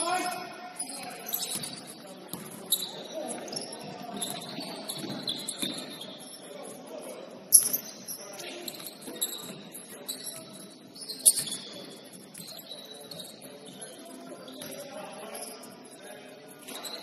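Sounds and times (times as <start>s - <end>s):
sneakers squeaking on court floor: 0.0s - 6.6s, 7.5s - 16.0s, 16.6s - 17.0s.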